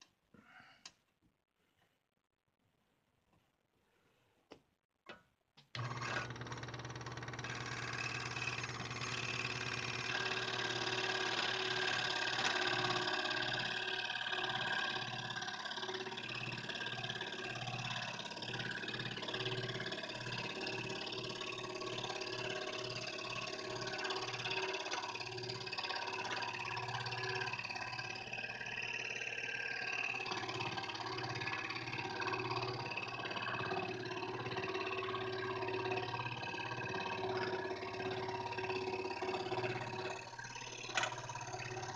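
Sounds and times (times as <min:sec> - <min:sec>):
scroll saw cutting wood: 0:05.8 - 0:41.9.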